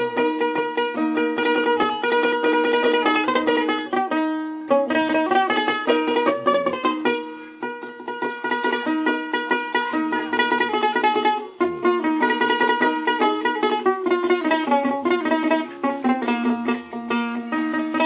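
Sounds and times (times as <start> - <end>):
plucked lute melody: 0.0 - 18.0.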